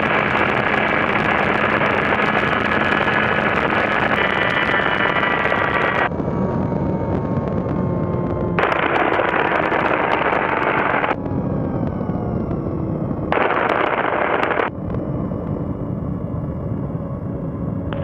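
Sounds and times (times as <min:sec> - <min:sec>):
light aircraft engine: 0:00.0 - 0:18.0
wind and airflow noise: 0:00.0 - 0:18.0.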